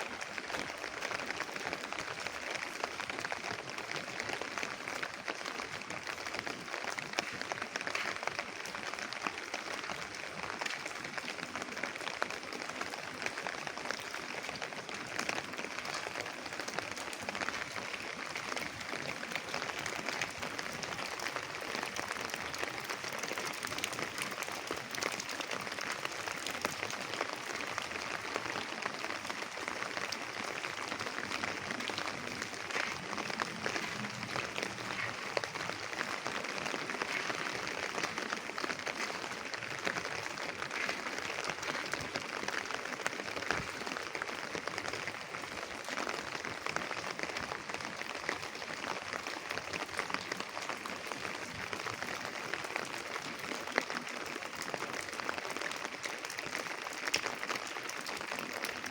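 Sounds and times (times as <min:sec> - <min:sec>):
rain drizzle patter: 0:00.0 - 0:58.9.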